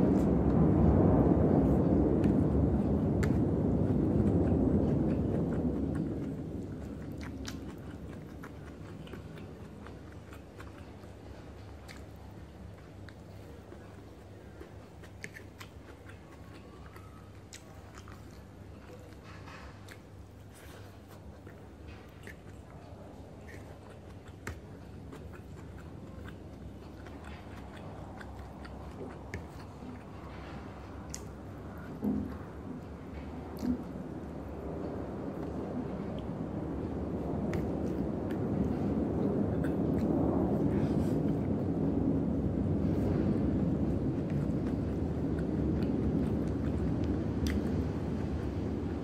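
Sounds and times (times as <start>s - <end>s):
chewing and mouth smacking: 0.0s - 49.0s
low rumble: 0.0s - 49.0s
low steady hum: 0.0s - 49.0s.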